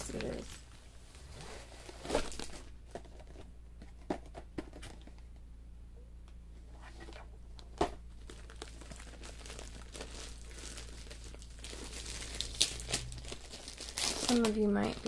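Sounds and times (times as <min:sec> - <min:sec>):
packaging crinkling and rustling: 0:00.0 - 0:00.8, 0:01.4 - 0:05.2, 0:06.8 - 0:15.0.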